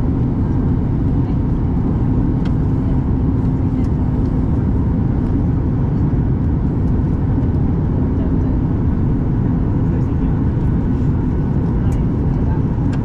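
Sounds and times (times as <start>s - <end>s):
airflow over fuselage: 0.0s - 13.0s
jet engine rumble in cabin: 0.0s - 13.0s.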